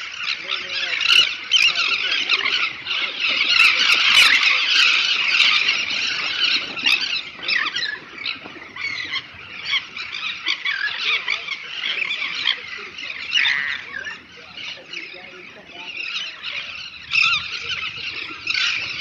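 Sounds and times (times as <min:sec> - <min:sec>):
terns calling: 0:00.0 - 0:19.0.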